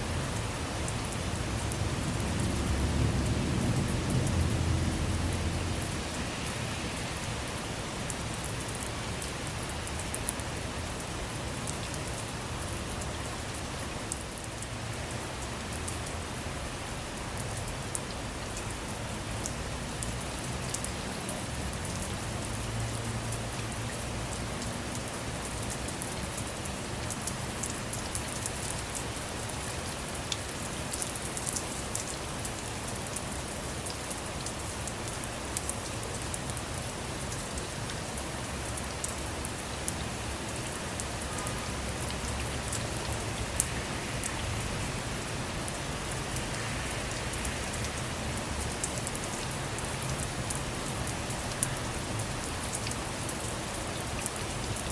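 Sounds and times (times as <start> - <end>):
rain pattering on a car: 0.0 - 54.9.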